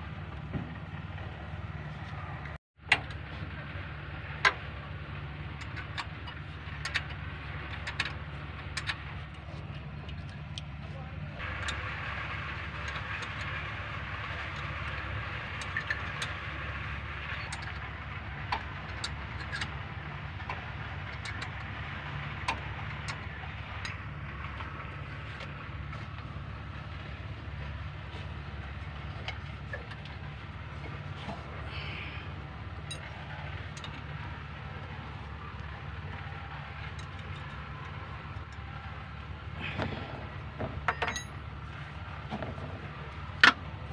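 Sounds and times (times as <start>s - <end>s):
low mechanical drone: 0.0s - 43.9s.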